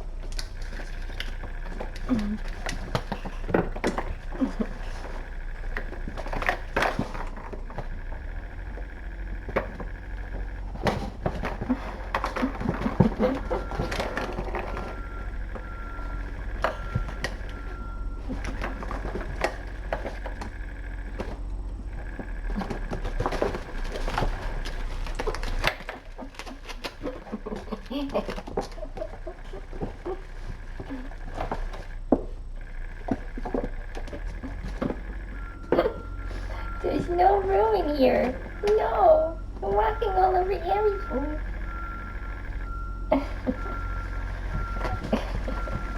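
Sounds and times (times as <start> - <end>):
clicks knocks and clatter: 0.0 - 36.8
low electrical hum: 0.0 - 45.9.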